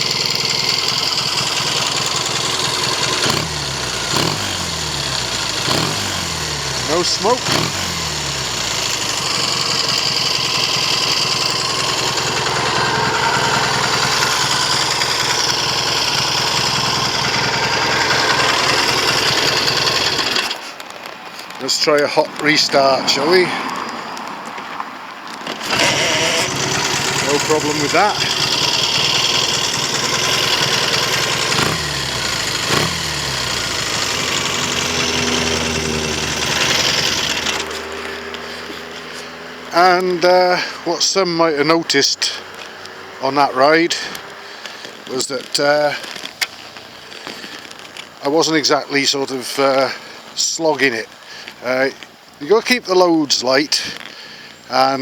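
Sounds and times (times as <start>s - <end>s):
motorcycle engine idling: 0.0s - 20.5s, 25.5s - 50.4s.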